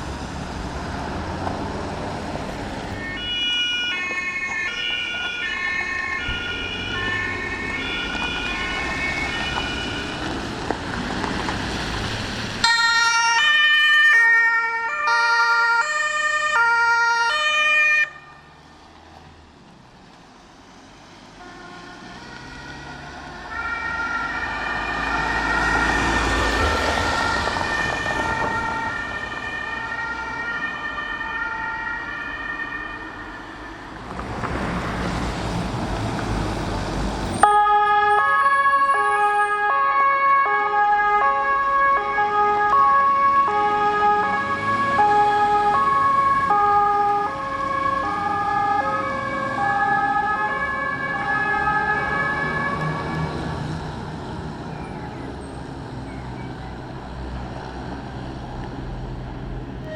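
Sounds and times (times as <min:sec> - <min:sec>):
vehicles driving past: 0:00.0 - 0:59.9
two-tone emergency sirens: 0:02.8 - 0:11.9, 0:12.5 - 0:18.8, 0:21.3 - 0:34.5, 0:35.5 - 0:58.0, 0:58.6 - 0:59.9.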